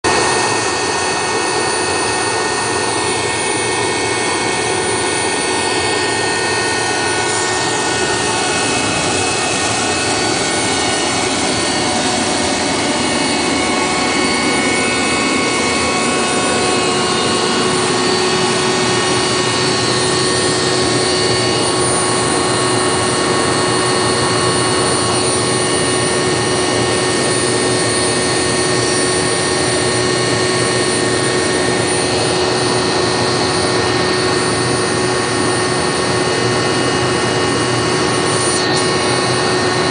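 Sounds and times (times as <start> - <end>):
gas turbine generator running: 0.0 - 39.9.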